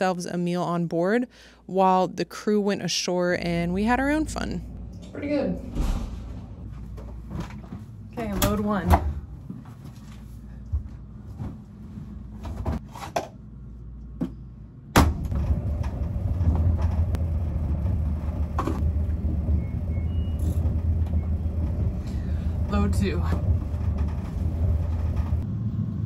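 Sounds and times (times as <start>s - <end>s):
low machine hum: 3.4s - 12.8s, 13.4s - 26.0s.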